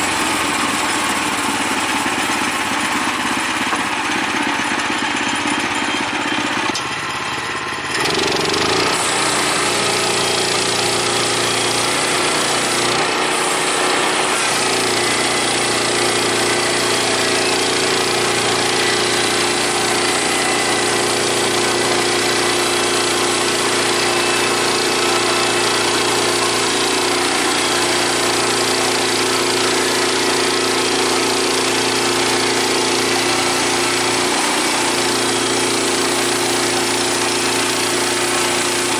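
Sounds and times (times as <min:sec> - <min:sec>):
sawmill engine droning: 0:00.0 - 0:38.9.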